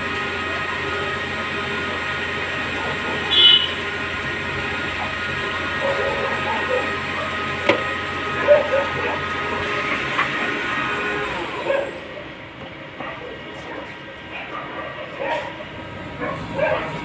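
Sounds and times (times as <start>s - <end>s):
lathe machine hum: 0.0s - 14.3s, 15.5s - 17.0s.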